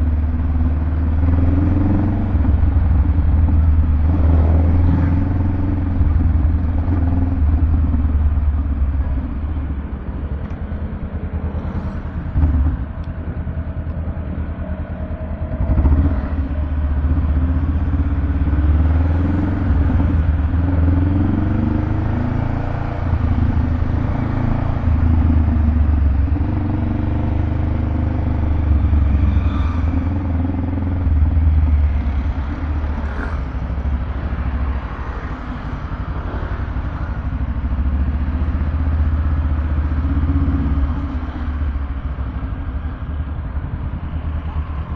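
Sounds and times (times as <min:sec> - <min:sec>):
motorcycle engine rumbling: 0:00.0 - 0:44.9.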